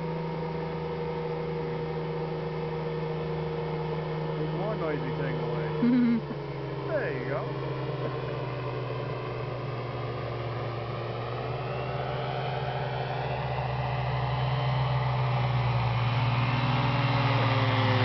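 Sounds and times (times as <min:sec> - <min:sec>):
light aircraft engine running: 0:00.0 - 0:18.0.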